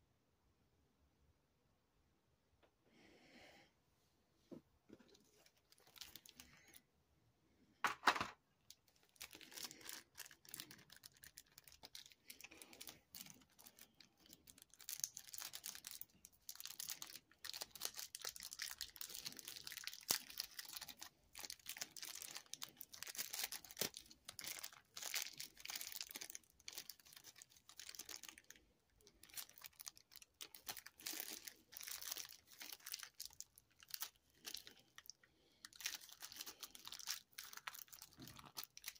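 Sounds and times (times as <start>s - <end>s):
plastic packaging crinkling: 5.0s - 6.8s, 7.9s - 38.9s.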